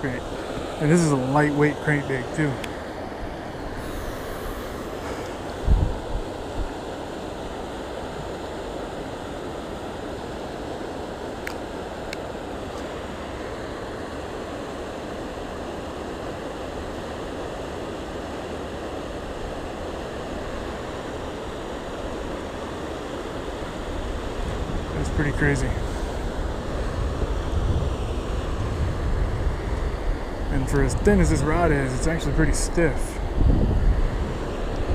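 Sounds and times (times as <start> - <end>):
river current rushing: 0.0 - 34.9.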